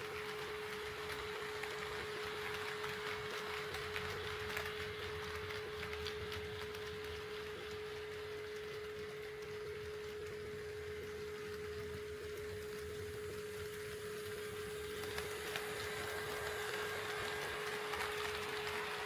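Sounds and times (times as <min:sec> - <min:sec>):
model train running: 0:00.0 - 0:19.0.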